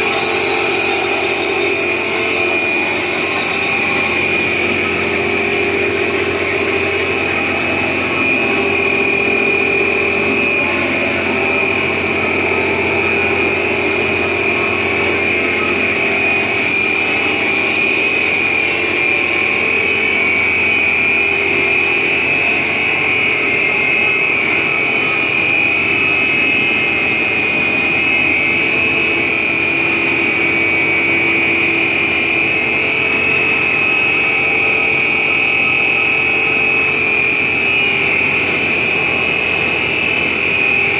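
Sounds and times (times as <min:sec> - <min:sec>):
high-pitched machine whine: 0:00.0 - 0:40.9
machine mechanical hum: 0:00.0 - 0:40.9.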